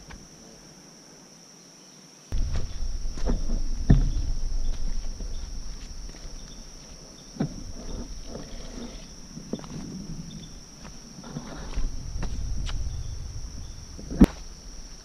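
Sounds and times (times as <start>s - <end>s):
insects droning: 0.0s - 15.0s
footsteps crunching: 2.4s - 15.0s.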